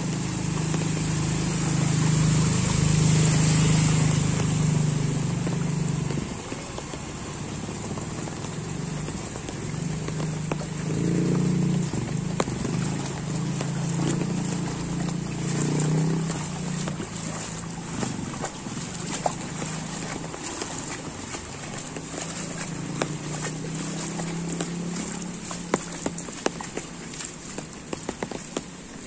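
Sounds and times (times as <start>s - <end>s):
heavy rain: 0.0s - 29.0s
scooter engines humming: 0.0s - 29.0s.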